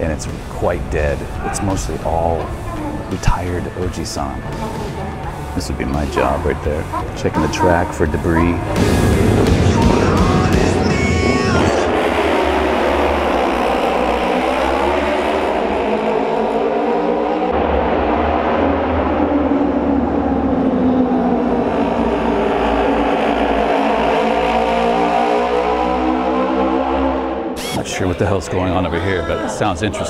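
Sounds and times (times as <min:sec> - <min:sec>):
racing motorcycle engines: 0:00.0 - 0:30.0.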